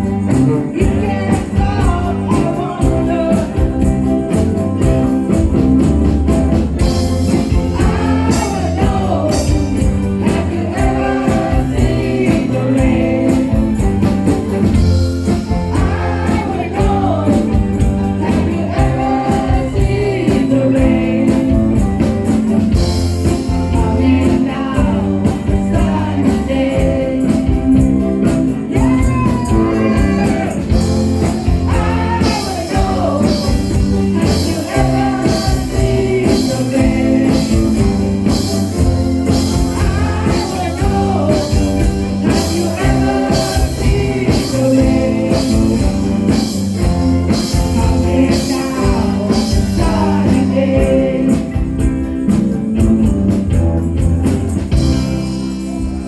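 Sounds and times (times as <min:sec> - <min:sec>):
lead singer singing: 0:00.0 - 0:05.4, 0:07.0 - 0:52.2
percussion beat: 0:00.0 - 0:56.0
rock band playing: 0:00.0 - 0:56.0.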